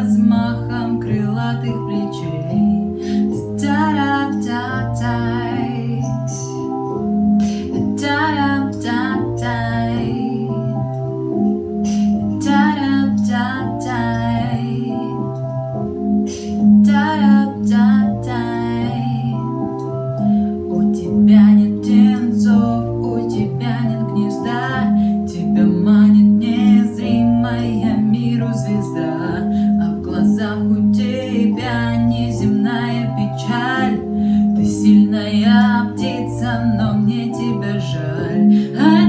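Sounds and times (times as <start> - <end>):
electronic keyboard chords: 0.0 - 39.0.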